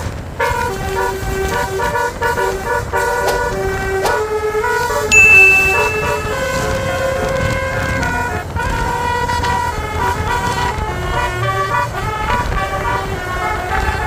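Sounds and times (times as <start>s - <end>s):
bus horn playing a melody: 0.4s - 4.9s, 6.4s - 14.0s.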